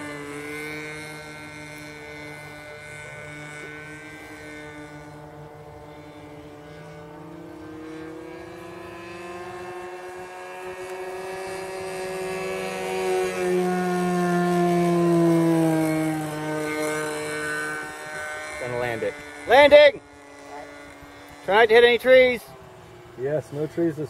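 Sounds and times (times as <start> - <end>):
model airplane propeller drone: 0.0 - 24.0.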